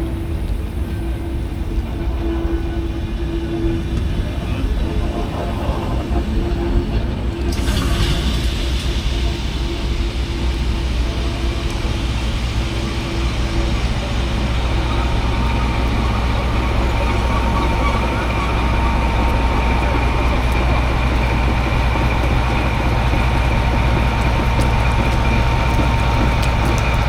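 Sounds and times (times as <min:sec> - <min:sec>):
locomotive rumbling: 0:00.0 - 0:27.0.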